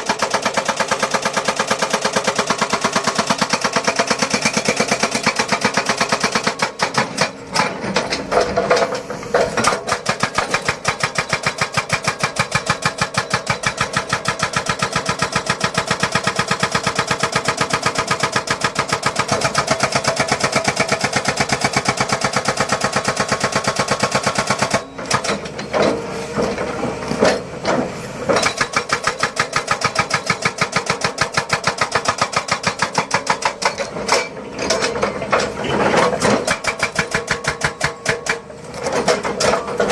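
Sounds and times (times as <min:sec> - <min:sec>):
jackhammer pounding: 0:00.0 - 0:39.9.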